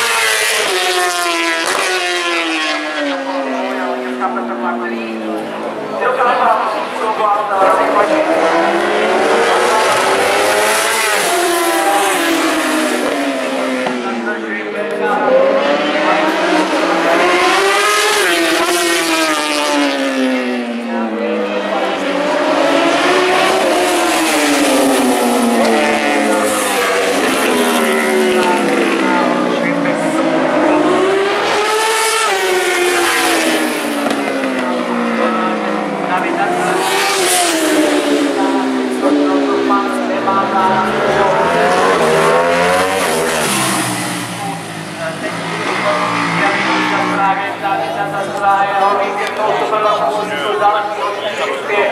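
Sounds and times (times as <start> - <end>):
racing motorcycles passing at high revs: 0.0 - 51.9.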